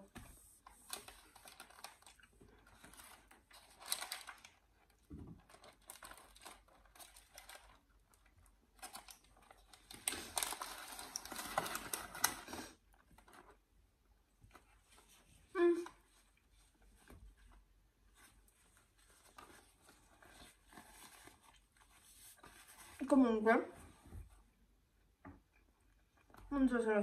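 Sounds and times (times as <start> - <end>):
paper wrapper crinkling: 0.6 - 13.7, 14.4 - 23.2.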